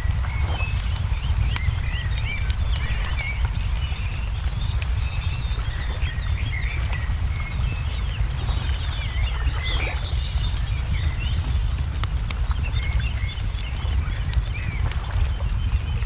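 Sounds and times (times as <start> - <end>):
small birds chirping: 0.0 - 16.0
steady low rumble: 0.0 - 16.0
wood fire crackling: 0.0 - 16.0.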